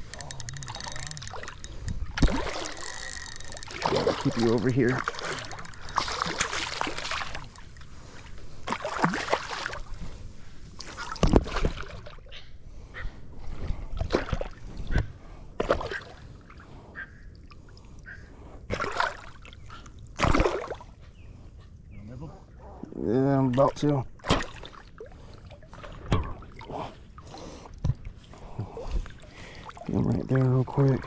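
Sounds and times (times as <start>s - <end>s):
water splashing at a kayak: 0.0s - 12.4s, 13.4s - 15.0s, 15.6s - 16.7s, 18.7s - 21.0s, 23.4s - 31.0s.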